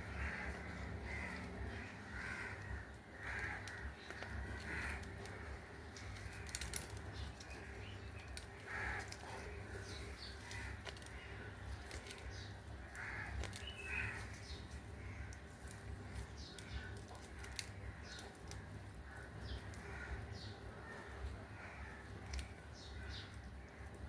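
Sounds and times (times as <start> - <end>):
bird harsh calls: 0.0 - 24.0
low steady hum: 0.0 - 24.0.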